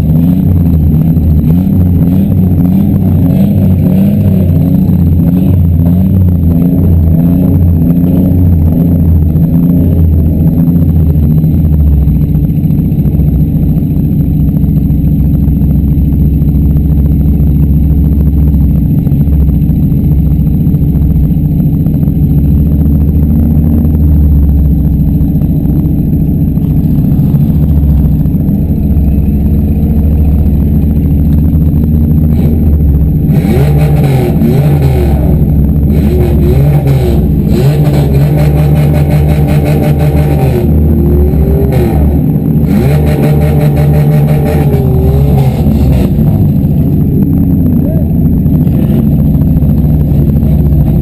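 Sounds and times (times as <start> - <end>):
car engines running loudly: 0.0 - 51.0
engines revving: 0.0 - 51.0.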